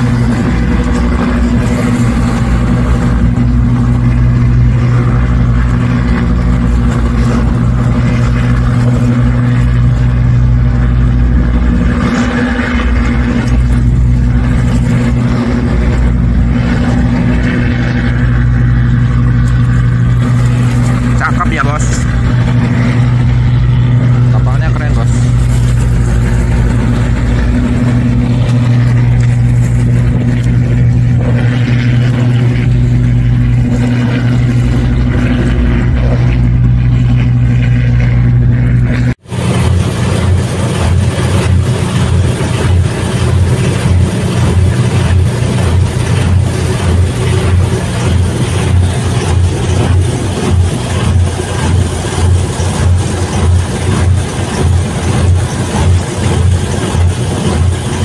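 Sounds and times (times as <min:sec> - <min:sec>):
boat engine running: 0:00.0 - 0:58.0
water noise: 0:00.0 - 0:58.0
wind: 0:00.0 - 0:58.0.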